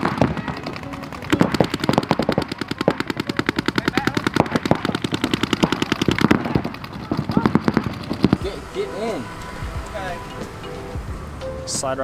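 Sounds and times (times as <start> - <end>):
paintball markers rapid firing: 0.0 - 11.1.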